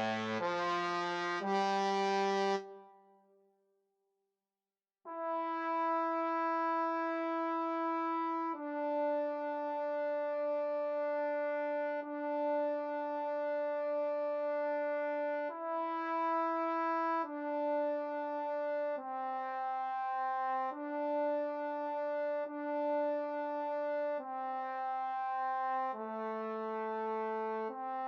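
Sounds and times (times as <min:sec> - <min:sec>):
trombone playing slow notes: 0:00.0 - 0:03.0, 0:05.1 - 0:28.0.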